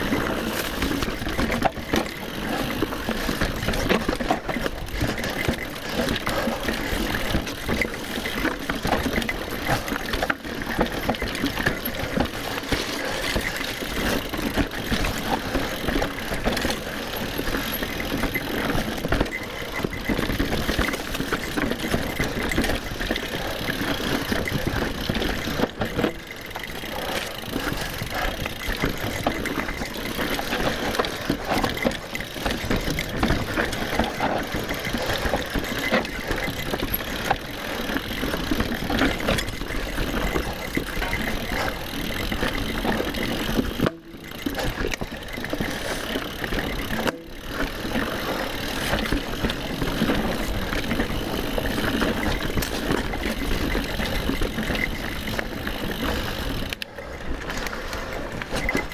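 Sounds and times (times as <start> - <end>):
bike tyres rattling over dirt: 0.0 - 58.9.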